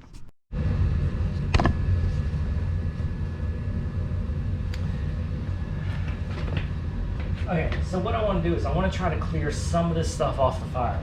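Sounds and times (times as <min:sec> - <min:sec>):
low mechanical drone: 0:00.0 - 0:11.0
faint whine: 0:00.5 - 0:11.0.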